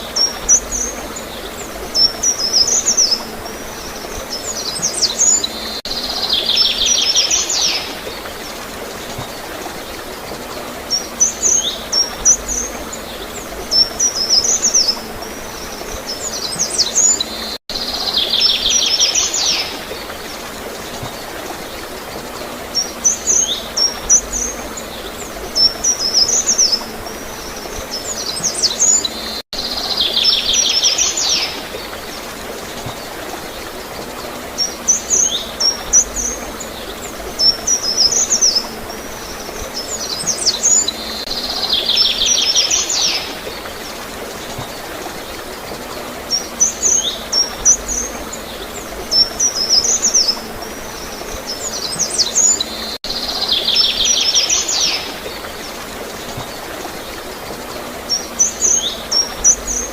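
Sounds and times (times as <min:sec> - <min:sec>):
flowing water hiss: 0:00.0 - 0:59.9
small birds chirping and trilling: 0:00.0 - 0:59.9.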